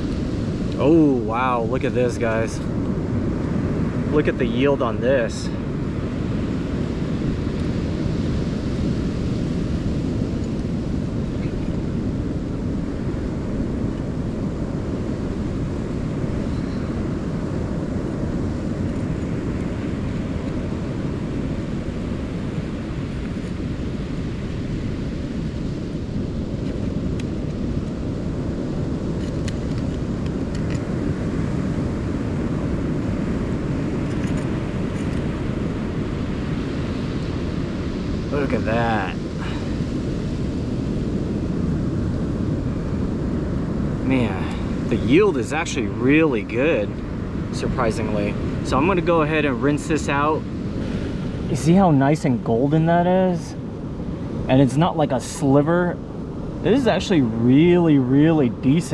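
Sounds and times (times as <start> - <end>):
surf on the shore: 0.0 - 58.9
wind: 0.0 - 58.9.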